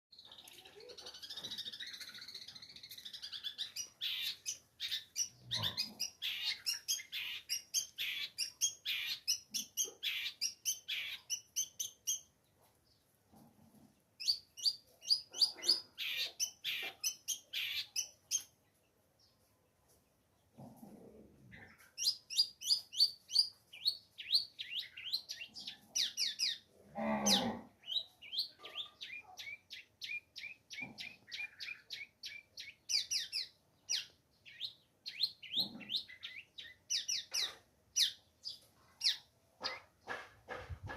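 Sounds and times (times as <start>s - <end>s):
lower harsh bird sounds: 0.1s - 40.9s.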